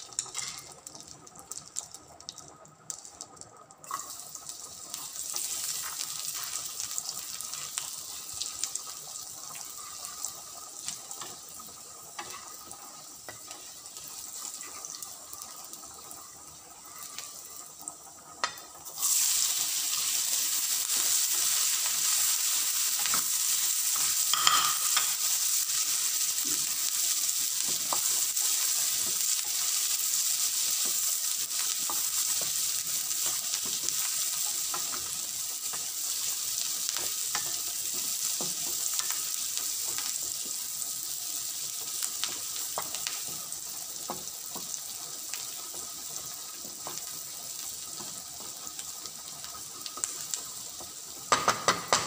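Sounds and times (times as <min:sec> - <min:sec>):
onion sizzling in oil: 0:00.0 - 0:52.0.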